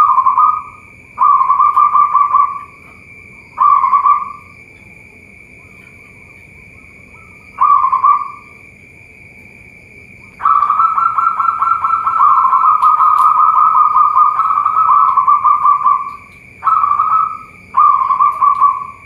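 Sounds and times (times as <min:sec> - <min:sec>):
dove cooing: 0:00.0 - 0:04.5, 0:05.5 - 0:08.6, 0:10.2 - 0:19.0.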